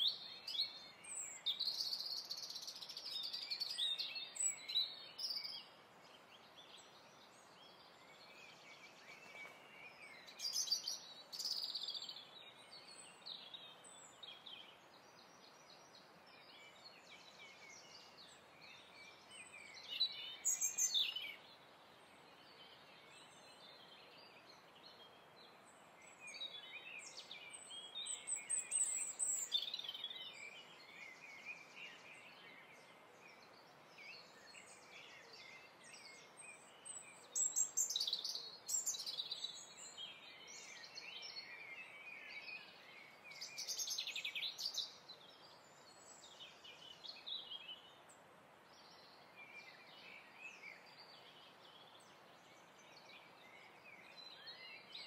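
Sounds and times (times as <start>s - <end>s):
birds chirping: 0.0s - 25.2s, 26.0s - 55.0s
faint steady hiss: 0.0s - 55.0s.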